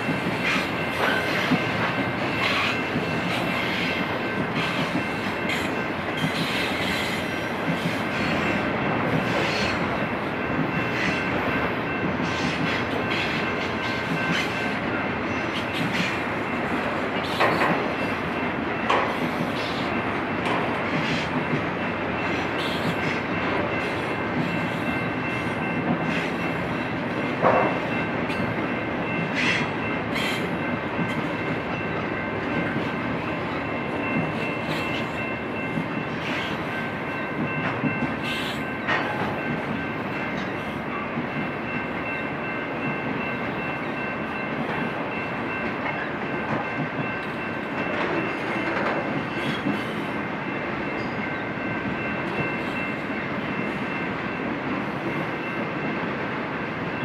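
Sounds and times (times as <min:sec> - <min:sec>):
sharp clanks from train cars: 0:00.0 - 0:54.3
train wheels rumbling on rail: 0:00.0 - 0:57.0.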